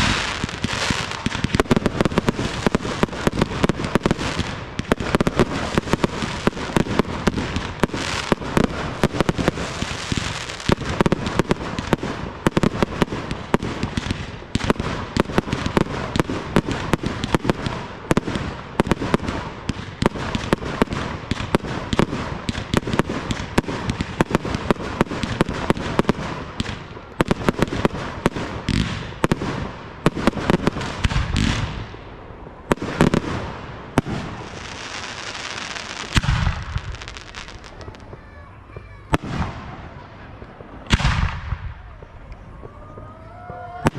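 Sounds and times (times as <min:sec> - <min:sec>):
deep fireworks booms: 0:00.0 - 0:43.9
fireworks bursts with crackle: 0:00.0 - 0:43.9.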